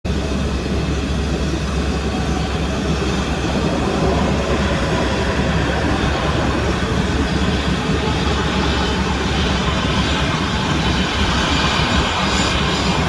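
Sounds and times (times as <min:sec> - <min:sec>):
jet engine rumble: 0:00.1 - 0:13.0.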